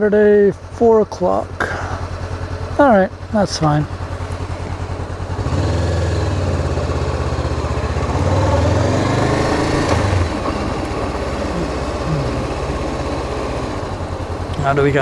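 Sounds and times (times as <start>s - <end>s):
motorcycle engine pulling away: 1.5s - 15.0s.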